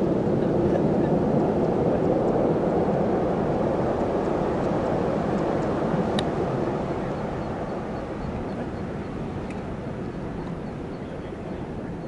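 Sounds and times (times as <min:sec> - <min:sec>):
ocean surf breaking: 0:00.0 - 0:11.8.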